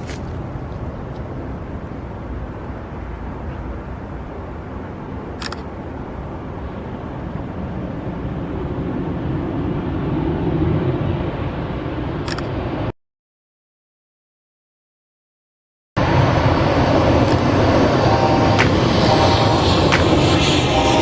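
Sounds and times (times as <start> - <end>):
jet airliner rumble: 0.0 - 12.9, 16.0 - 21.0.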